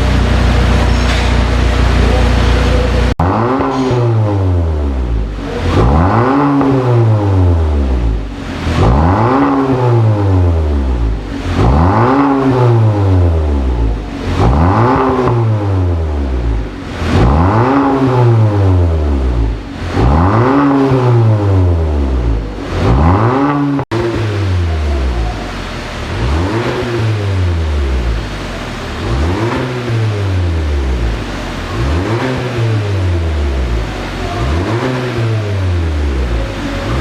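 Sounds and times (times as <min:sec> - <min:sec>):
car engine revving through exhaust: 0:00.0 - 0:37.0.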